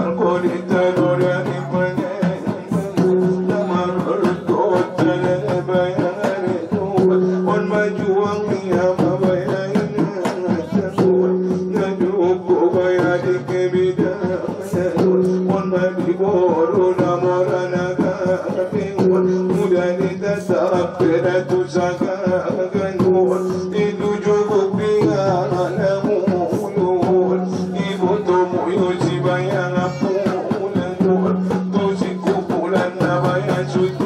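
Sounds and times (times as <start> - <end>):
rapid drum strokes: 0.0 - 34.0.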